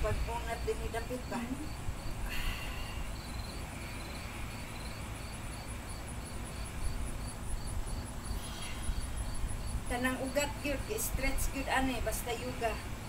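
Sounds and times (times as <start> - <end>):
low background rumble: 0.0 - 13.0
cricket chirping: 0.3 - 11.1.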